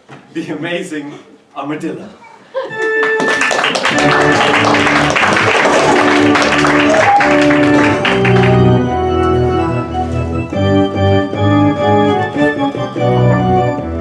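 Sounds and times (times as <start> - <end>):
organ-like keyboard music: 2.7 - 14.0.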